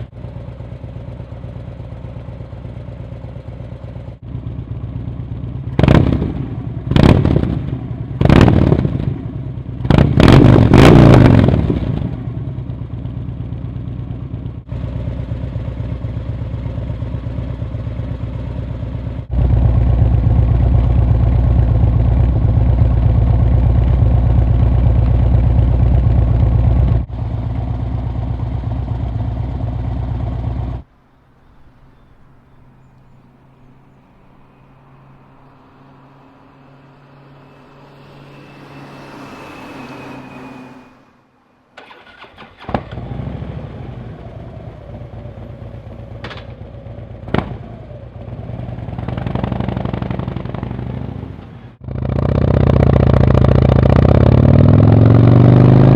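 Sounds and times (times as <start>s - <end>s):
motorcycle engine revving and idling: 0.0s - 40.9s, 41.8s - 55.9s.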